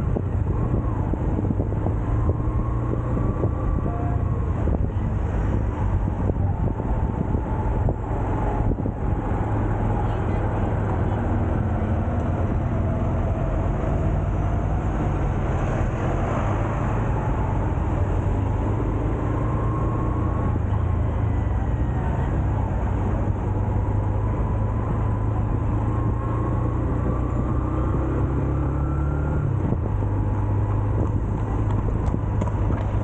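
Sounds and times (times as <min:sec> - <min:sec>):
low road noise rumble: 0:00.0 - 0:33.0.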